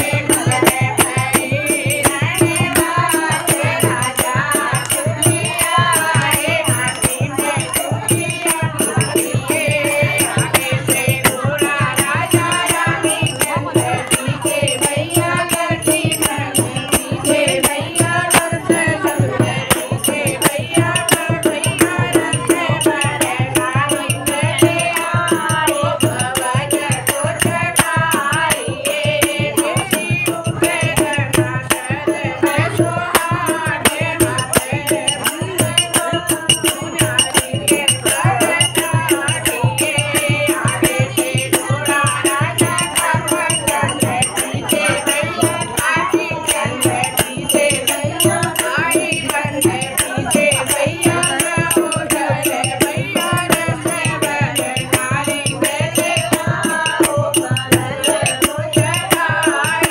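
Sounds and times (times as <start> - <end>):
dholak drum: 0.0 - 59.9
rattling percussion beat: 0.0 - 59.9.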